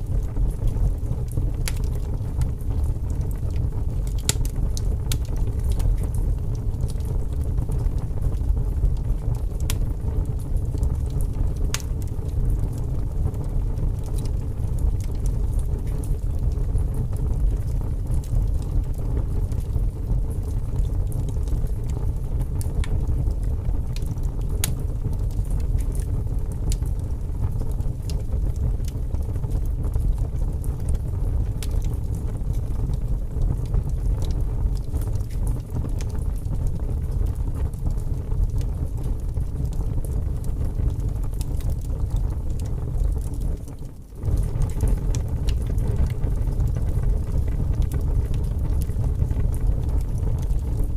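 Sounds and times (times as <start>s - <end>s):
fire crackling and popping: 0.0s - 50.9s
low roar of flames: 0.0s - 50.9s.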